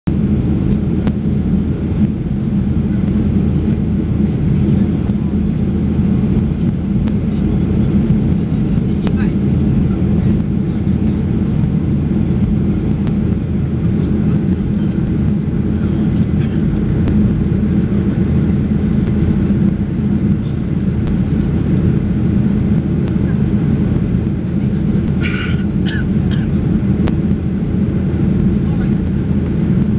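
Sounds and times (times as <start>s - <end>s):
airliner cabin drone: 0.0s - 29.9s.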